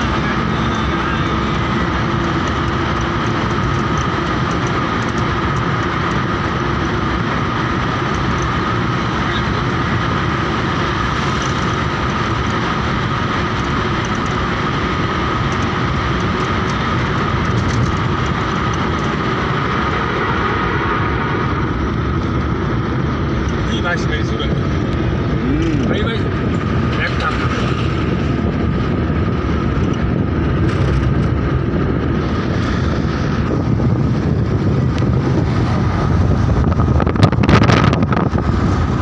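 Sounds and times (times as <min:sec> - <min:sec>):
car road and engine noise: 0:00.0 - 0:39.0
constant high hum: 0:00.0 - 0:39.0.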